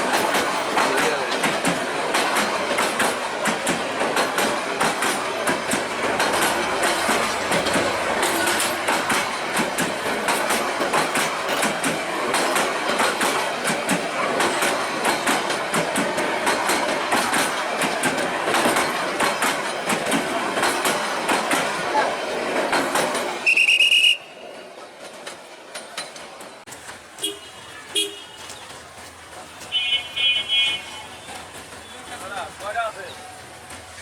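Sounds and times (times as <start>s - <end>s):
train wheels clattering over rail joints: 0.0s - 34.0s.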